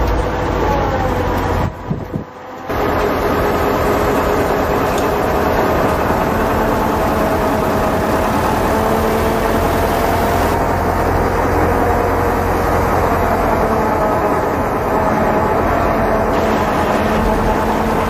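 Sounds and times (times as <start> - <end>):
heavy engine droning: 0.0 - 18.0.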